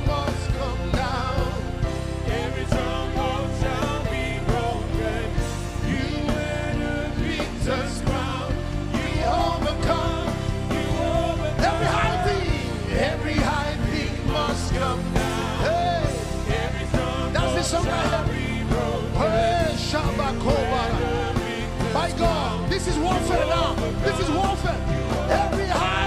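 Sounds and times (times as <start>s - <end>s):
gospel band playing: 0.0s - 26.0s
voices singing: 0.0s - 26.0s.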